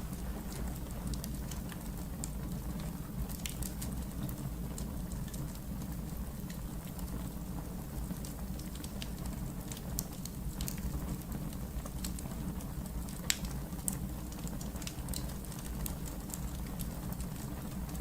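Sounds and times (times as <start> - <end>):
fire crackles and pops: 0.0 - 18.0
low fire rumble: 0.0 - 18.0.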